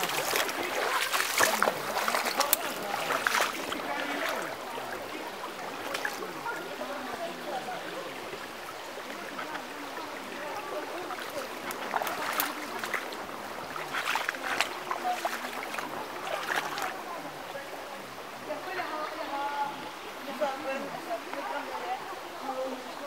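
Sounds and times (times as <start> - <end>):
stream babbling over pebbles: 0.0 - 23.0
water gurgles: 0.0 - 23.0.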